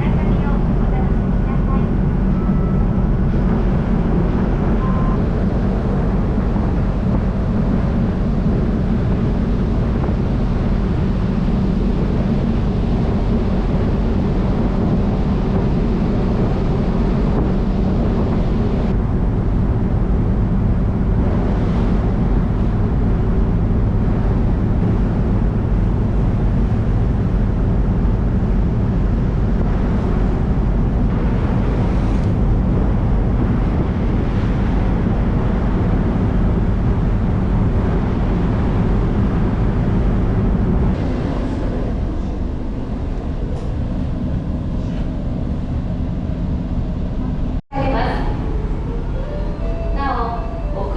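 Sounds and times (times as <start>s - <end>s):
low engine drone: 0.0s - 50.9s
wind noise on microphone: 0.0s - 50.9s.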